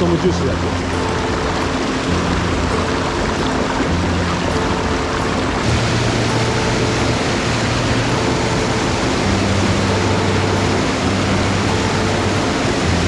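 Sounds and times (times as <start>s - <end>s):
low background music: 0.0s - 13.0s
mountain stream rushing: 0.0s - 13.0s.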